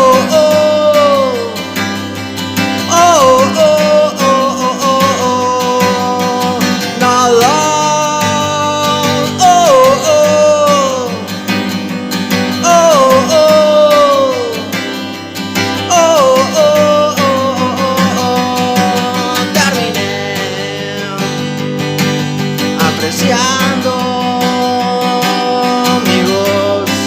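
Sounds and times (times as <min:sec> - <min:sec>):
guitar-backed instrumental music: 0:00.0 - 0:27.0.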